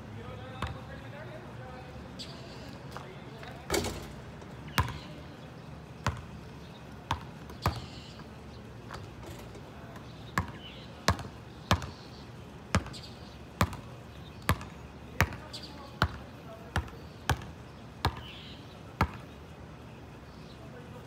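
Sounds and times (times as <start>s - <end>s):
basketball bouncing on asphalt: 0.4s - 1.4s, 2.2s - 19.4s.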